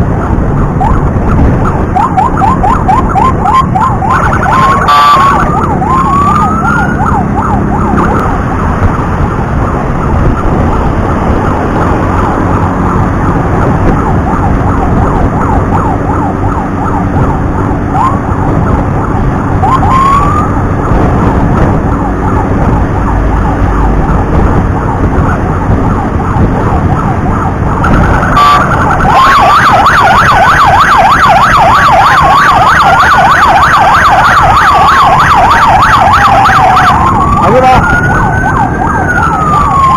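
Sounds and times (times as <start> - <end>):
ambulance siren warbling: 0.0 - 39.9
low road rumble: 0.0 - 39.9
slow wailing siren: 0.0 - 39.9.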